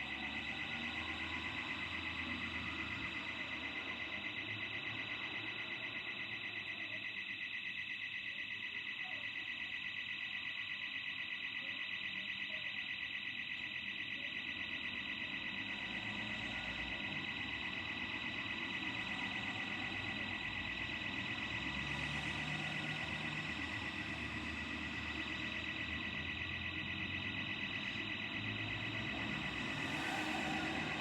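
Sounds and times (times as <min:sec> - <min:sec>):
burglar alarm pulsing tone: 0:00.0 - 0:31.0.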